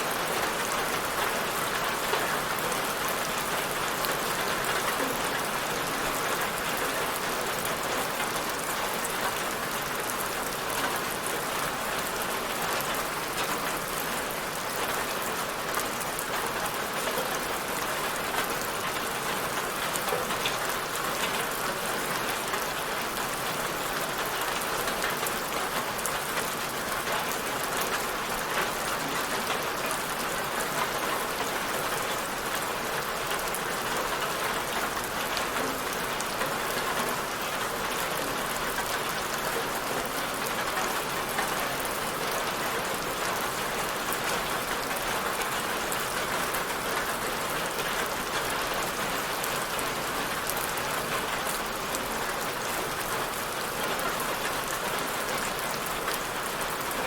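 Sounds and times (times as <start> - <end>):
rain on a surface: 0.0 - 57.0.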